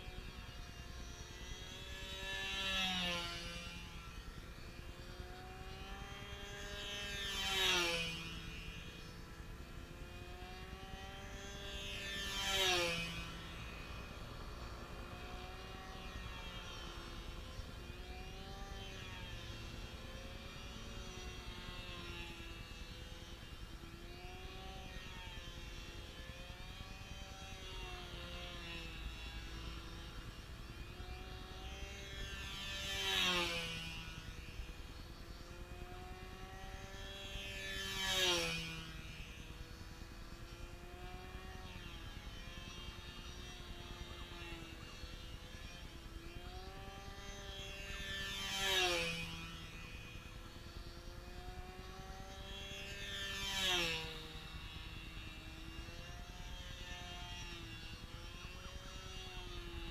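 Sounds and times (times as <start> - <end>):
model airplane motor droning: 0.0 - 59.9.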